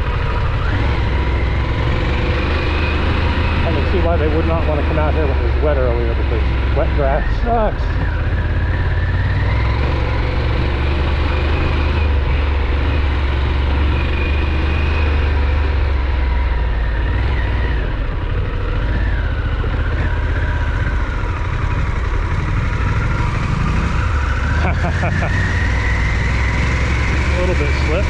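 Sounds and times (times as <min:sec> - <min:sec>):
motorcycle engine rumbling: 0:00.0 - 0:28.0.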